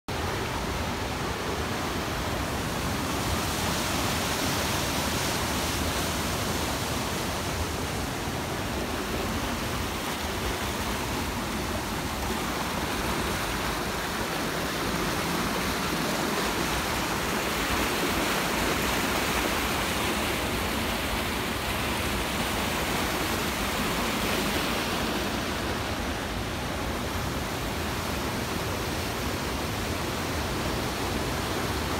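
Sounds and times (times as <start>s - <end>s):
water rushing over weir: 0.1s - 31.9s.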